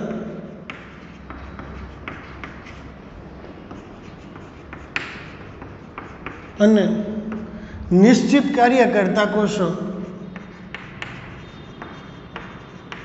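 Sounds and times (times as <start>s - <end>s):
chalk tapping and scratching on chalkboard: 0.0s - 13.0s.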